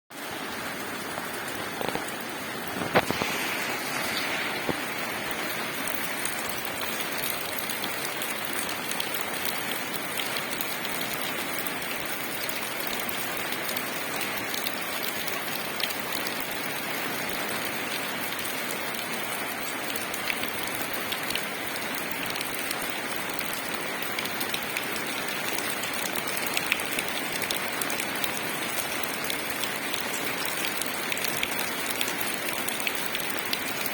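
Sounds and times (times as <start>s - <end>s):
rain falling on leaves: 0.1s - 33.9s.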